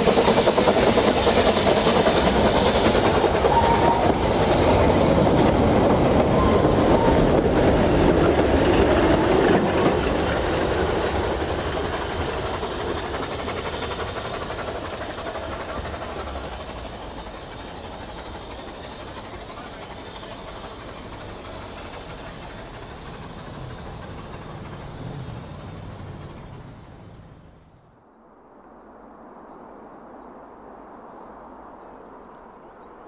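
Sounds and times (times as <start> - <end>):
steam train wheels clattering: 0.0 - 27.7.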